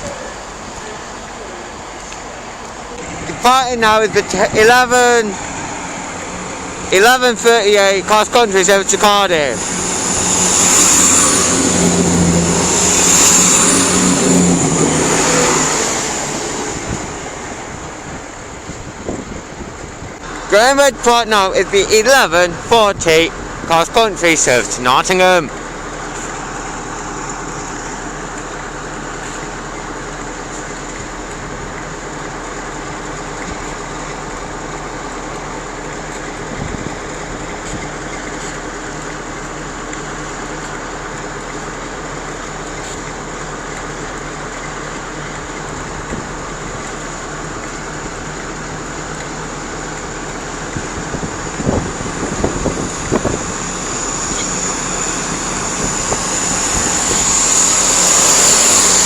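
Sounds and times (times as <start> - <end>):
diesel train engines running: 0.0 - 59.0.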